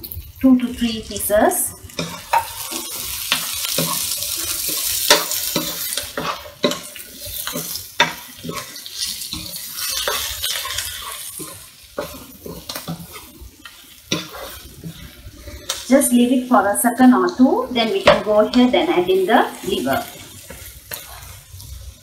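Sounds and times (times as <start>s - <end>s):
vegetables sizzling in a frying pan: 0.0s - 22.0s
spatula scraping and knocking pan: 1.9s - 15.8s, 17.7s - 21.7s.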